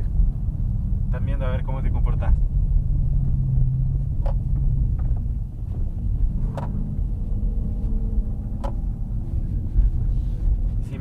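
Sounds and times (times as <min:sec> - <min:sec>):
car engine and exhaust driving: 0:00.0 - 0:11.0
road rumble: 0:00.0 - 0:11.0.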